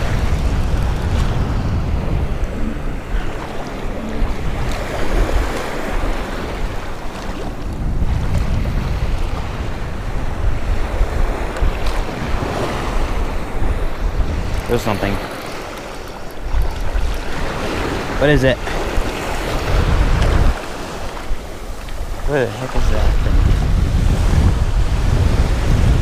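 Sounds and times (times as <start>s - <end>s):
small waves breaking: 0.0s - 23.5s
wind buffeting the microphone: 0.0s - 26.0s.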